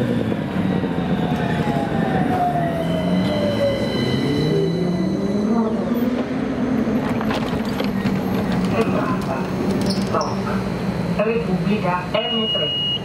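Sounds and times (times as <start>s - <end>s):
tram traction drive whining: 0.1s - 12.0s.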